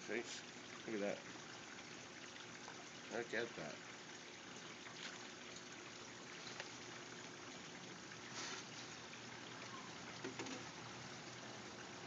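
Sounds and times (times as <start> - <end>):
faint trickle of running water: 0.0 - 12.0.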